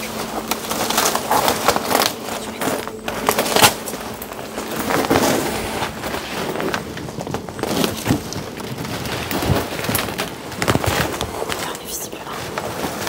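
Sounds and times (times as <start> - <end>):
dry twigs snapping underfoot: 0.0 - 13.0
footsteps rustling through vegetation: 0.0 - 13.0.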